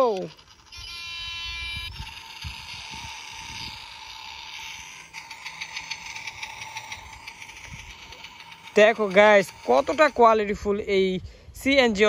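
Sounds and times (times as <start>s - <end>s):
toy engine sound effect: 0.0s - 11.1s.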